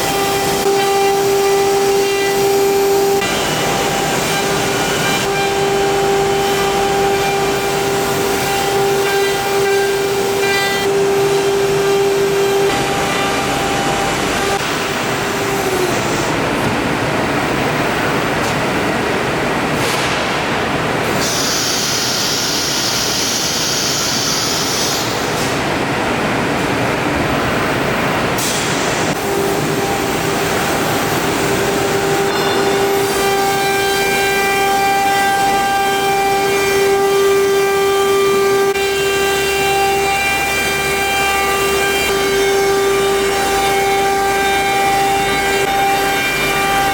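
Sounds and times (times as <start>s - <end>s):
router spindle whine: 0.0s - 16.7s, 21.2s - 25.3s, 29.2s - 46.9s.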